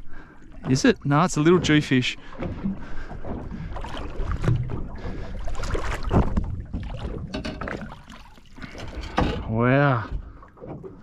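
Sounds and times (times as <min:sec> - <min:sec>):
knocks and clatter in small boat: 0:00.0 - 0:11.0.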